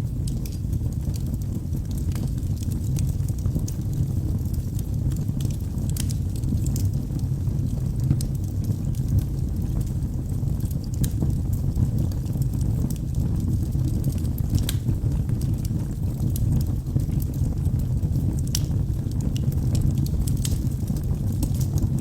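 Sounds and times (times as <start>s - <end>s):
fire flames rumbling: 0.0s - 22.0s
logs crackling and popping: 0.0s - 22.0s.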